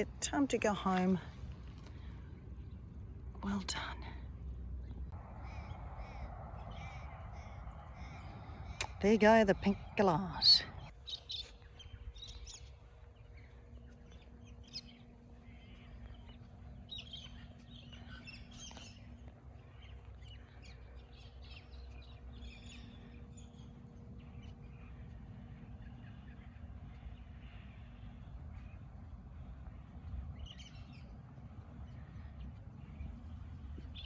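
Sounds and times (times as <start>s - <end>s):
birds chirping and screeching: 0.0s - 34.0s
low hum: 0.0s - 34.0s.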